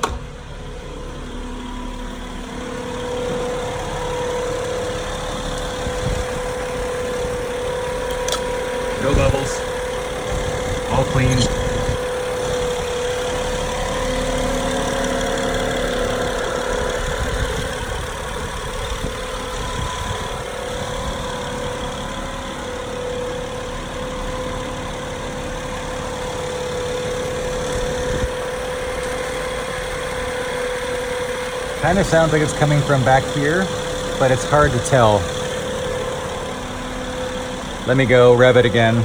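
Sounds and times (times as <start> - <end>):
car engine idling: 0.0 - 39.0
steady engine whine: 0.0 - 39.0.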